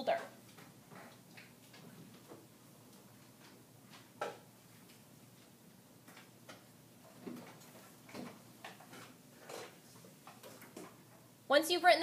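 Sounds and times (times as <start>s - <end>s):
faint clicks and taps: 0.1s - 11.3s.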